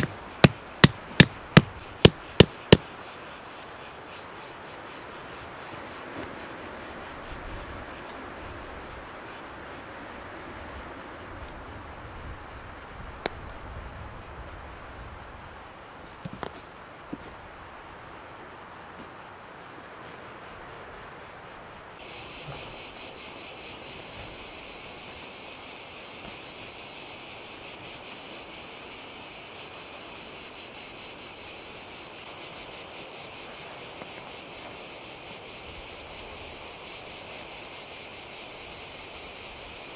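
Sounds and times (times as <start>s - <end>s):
cicadas chirring: 0.0s - 39.9s.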